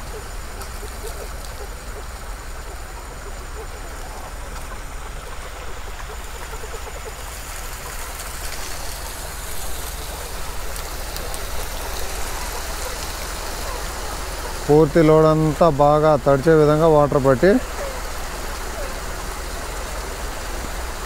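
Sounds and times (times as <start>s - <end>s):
water splashing onto crates: 0.0s - 21.0s.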